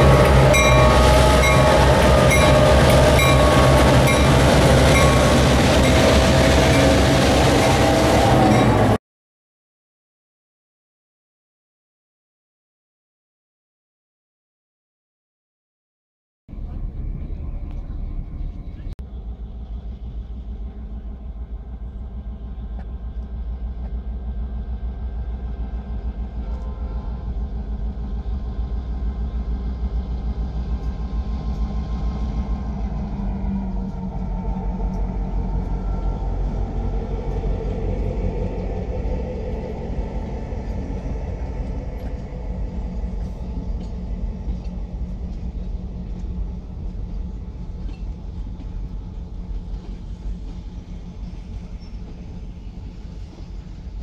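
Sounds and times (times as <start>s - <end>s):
diesel locomotives passing: 0.0s - 9.0s, 16.5s - 54.0s
passenger coaches rumbling past: 0.0s - 9.0s, 16.5s - 54.0s.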